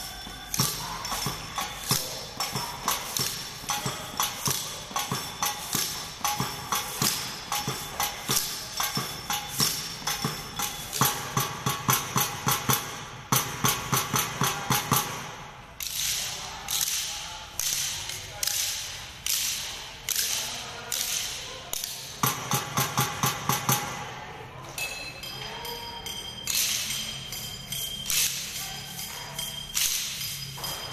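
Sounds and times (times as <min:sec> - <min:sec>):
wooden sticks clacking: 0:00.0 - 0:24.0, 0:24.8 - 0:30.9.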